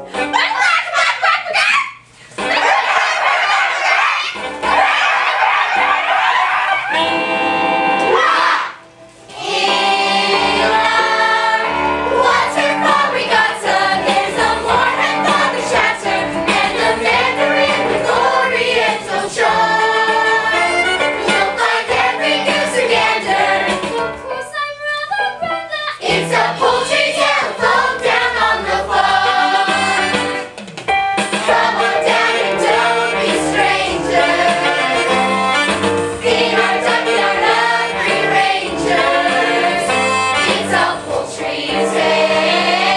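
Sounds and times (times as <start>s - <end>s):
instrumental accompaniment: 4.3s - 24.4s, 25.3s - 42.9s.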